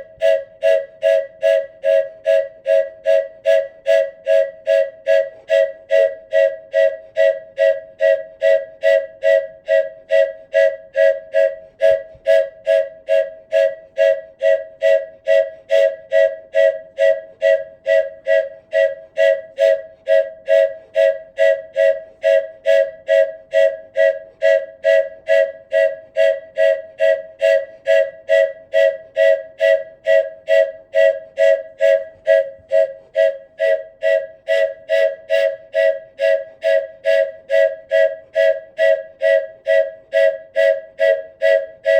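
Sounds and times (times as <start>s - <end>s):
wooden train whistle toots: 0.0s - 41.9s.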